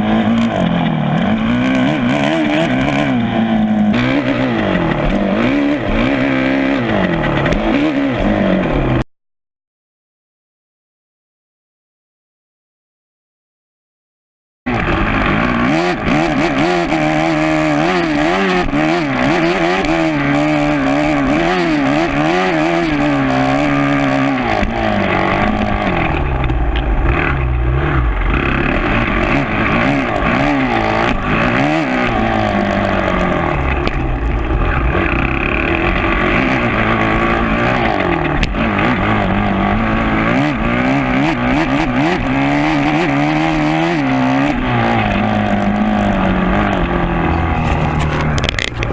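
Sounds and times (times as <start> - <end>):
motocross engine revving: 0.0 - 9.0, 14.7 - 48.9.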